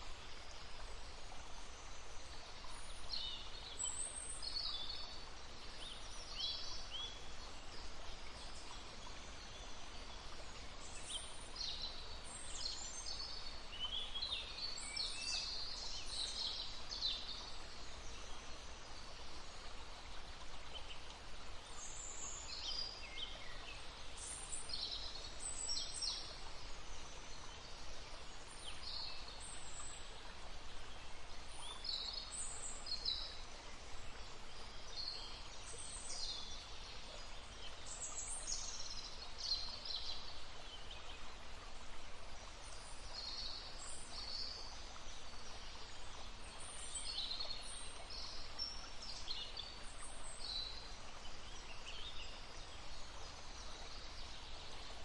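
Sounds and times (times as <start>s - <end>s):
babbling brook: 0.0s - 55.0s.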